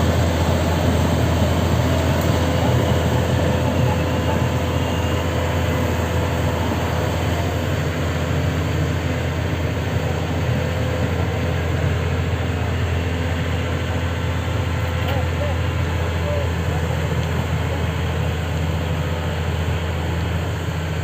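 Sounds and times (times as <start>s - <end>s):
thin steady whine: 0.0s - 20.7s
excavator diesel engine drone: 0.0s - 21.0s.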